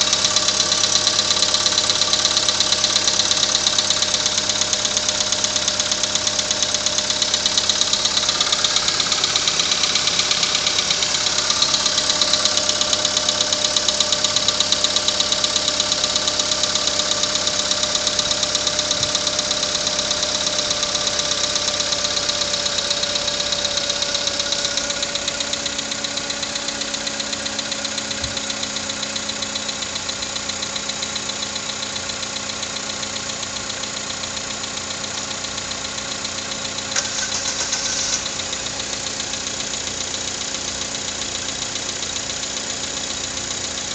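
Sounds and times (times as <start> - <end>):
car engine idling with knock: 0.0 - 43.9.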